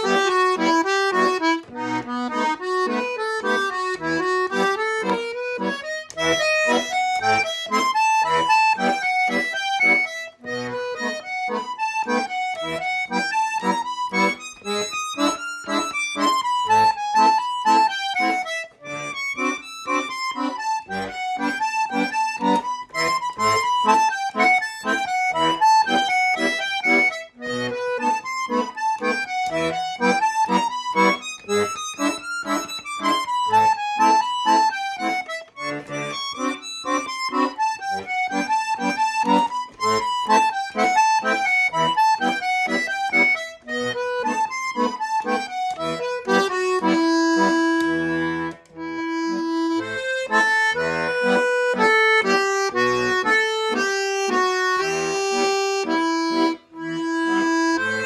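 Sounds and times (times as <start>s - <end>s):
accordion playing folk melody: 0.0s - 58.0s.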